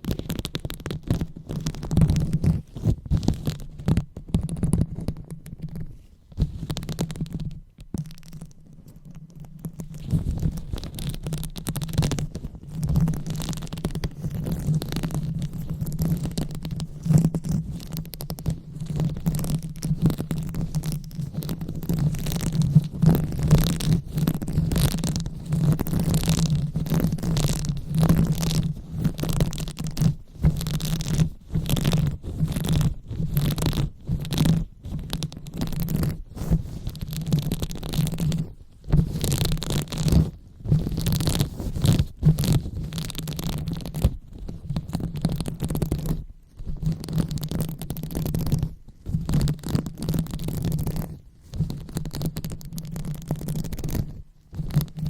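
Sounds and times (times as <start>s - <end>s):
hands rubbing a microphone: 0.0s - 55.0s.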